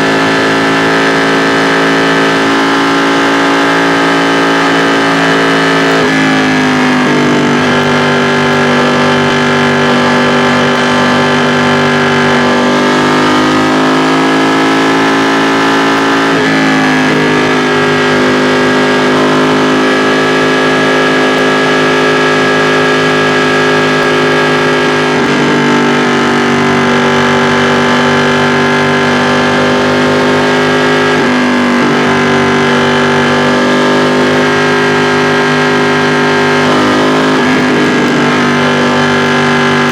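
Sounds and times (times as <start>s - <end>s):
motorcycle engine changing gear: 0.0s - 39.9s.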